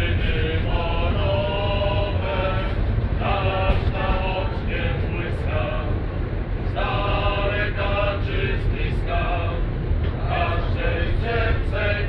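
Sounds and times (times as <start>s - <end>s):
men's choir singing: 0.0s - 6.0s, 6.6s - 12.0s
tram rumbling: 0.0s - 12.0s.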